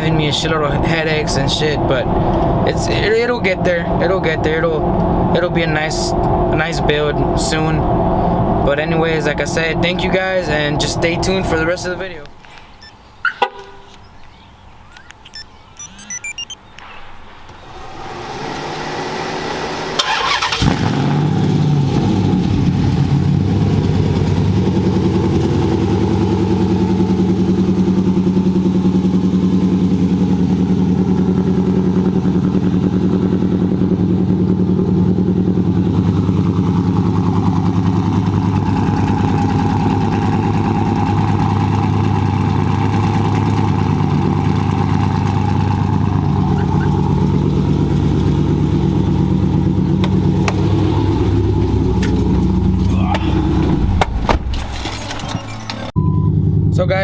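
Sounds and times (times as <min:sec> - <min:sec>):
loud car engine idling: 0:00.0 - 0:12.4, 0:17.6 - 0:54.0
car engine starting: 0:00.0 - 0:57.0.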